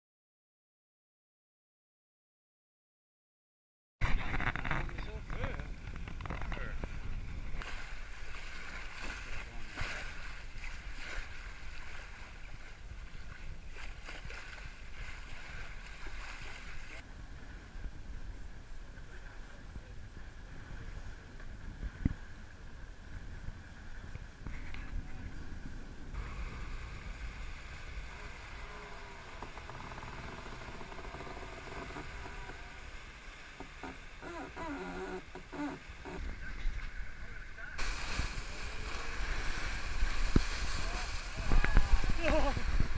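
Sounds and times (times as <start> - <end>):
wind rumble on microphone: 4.0 - 42.9
water splashing along hull: 4.1 - 42.9.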